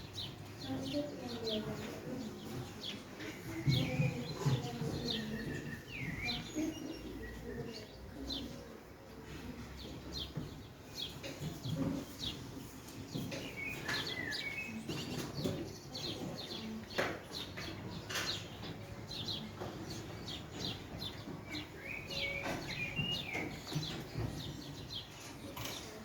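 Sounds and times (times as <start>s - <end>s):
low background noise: 0.0s - 26.0s
small birds chirping: 0.0s - 26.0s.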